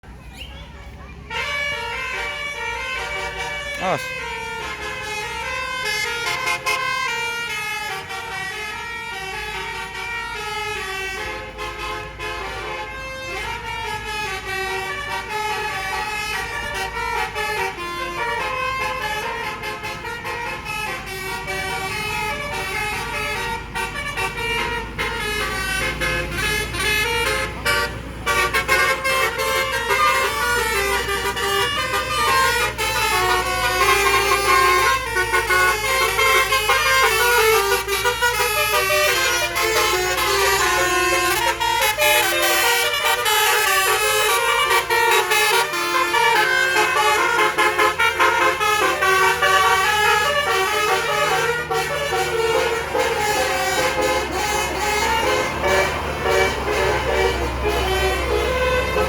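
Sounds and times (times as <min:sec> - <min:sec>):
low engine rumble: 0:00.0 - 0:59.0
multi-tone bus horns melody: 0:00.0 - 0:59.0.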